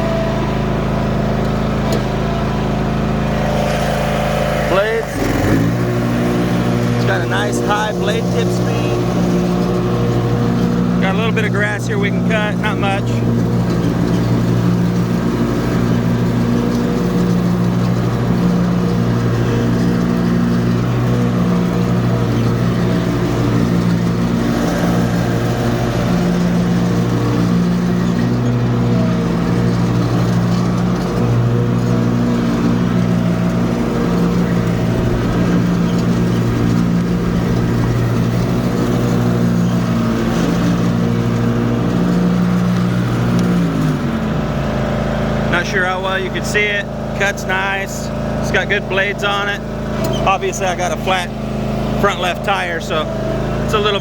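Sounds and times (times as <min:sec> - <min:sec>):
riding mower engine cutting grass: 0:00.0 - 0:54.0.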